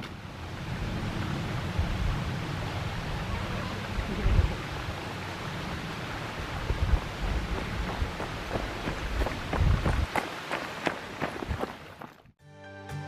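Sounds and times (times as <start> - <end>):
wind rumbling on microphone: 0.0 - 12.1.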